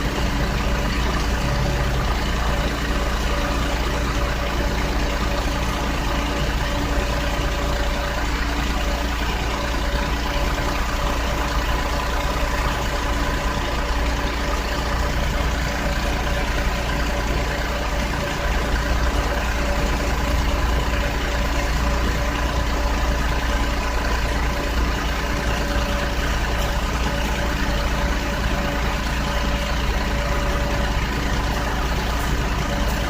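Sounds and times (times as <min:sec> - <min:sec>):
engine idling: 0:00.0 - 0:33.0
engine whine: 0:00.0 - 0:33.0.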